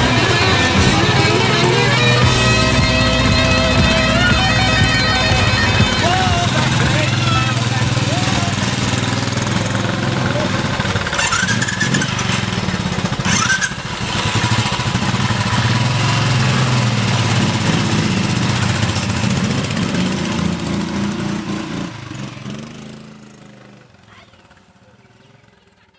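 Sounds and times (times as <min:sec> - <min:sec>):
motorcycles pulling away: 0:00.0 - 0:25.9.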